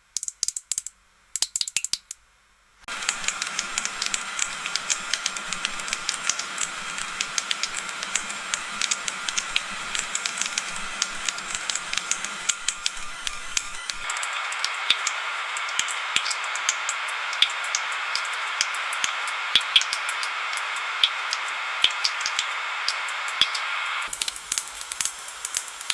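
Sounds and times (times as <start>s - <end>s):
raindrops ticking: 0.0s - 2.2s, 2.9s - 12.2s, 14.0s - 25.9s
steady hiss of rain: 0.1s - 25.9s.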